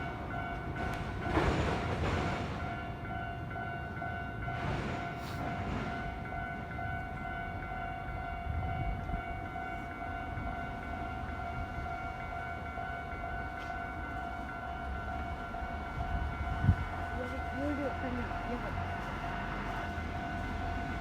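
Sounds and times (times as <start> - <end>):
level crossing warning bell: 0.0 - 21.0
train rumbling on tracks: 0.0 - 21.0.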